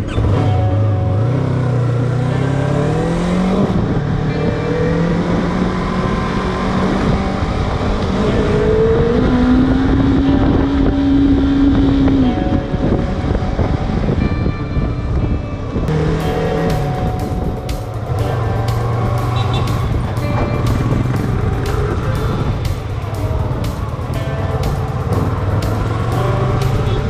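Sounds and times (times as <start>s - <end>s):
motorcycle engine accelerating: 0.0s - 27.0s
wind and road noise: 0.0s - 27.0s.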